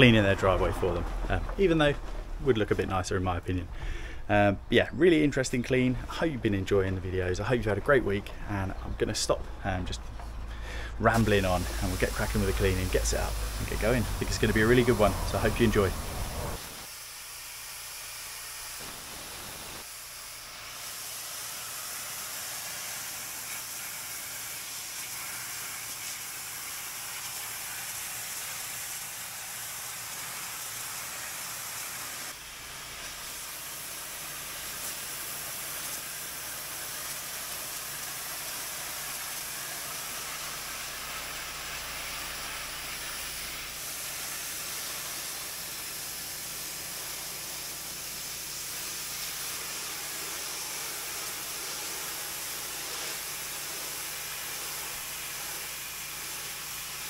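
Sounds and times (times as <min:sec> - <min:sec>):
pressure washer spraying: 0:11.0 - 0:57.0.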